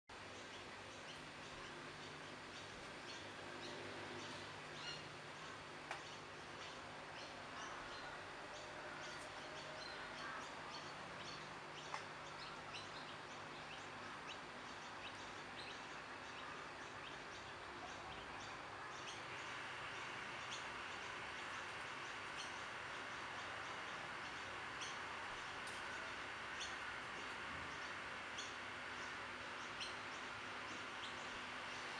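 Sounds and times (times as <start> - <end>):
small birds chirping: 0.1 - 31.9
steady low hum: 0.1 - 31.9.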